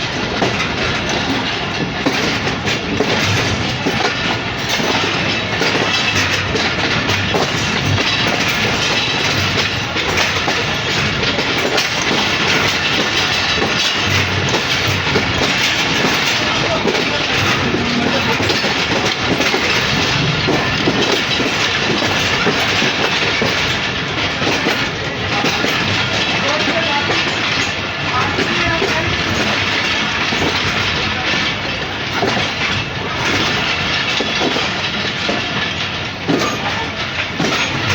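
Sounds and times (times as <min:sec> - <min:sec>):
train clickety-clack on rails: 0:00.0 - 0:37.9.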